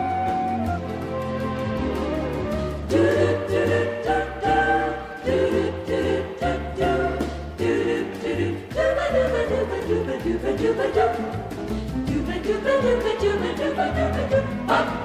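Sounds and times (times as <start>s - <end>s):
voices singing together: 2.5s - 15.0s.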